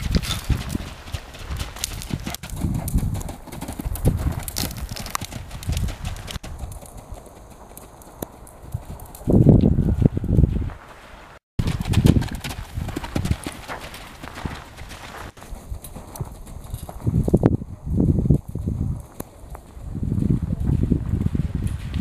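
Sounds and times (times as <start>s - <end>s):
horse hoofbeats on sand: 0.0s - 22.0s.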